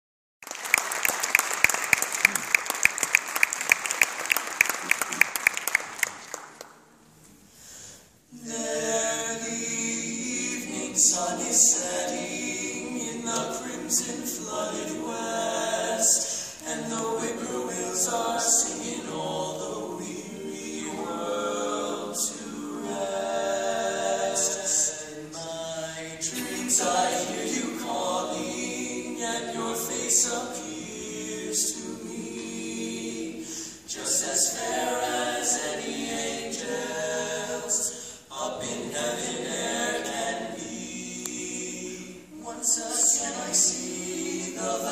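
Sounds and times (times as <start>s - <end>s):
male quartet singing a cappella: 8.3s - 44.9s.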